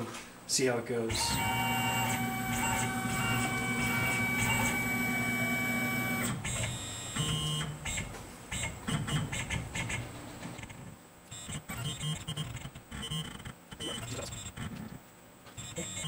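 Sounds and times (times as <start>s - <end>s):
soft mechanical sounds: 0.0s - 16.0s
drive motors whining: 1.1s - 15.0s.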